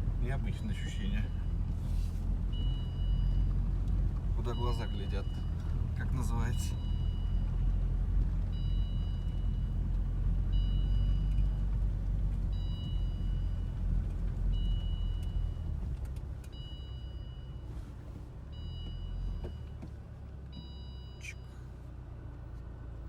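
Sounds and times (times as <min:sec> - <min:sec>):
engine and tyres rumbling: 0:00.0 - 0:23.0.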